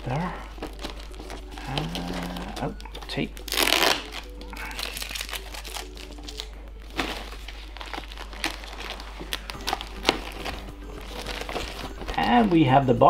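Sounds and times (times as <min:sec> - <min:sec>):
faint background music: 0:00.0 - 0:13.0
plastic wrap crinkling: 0:00.0 - 0:13.0.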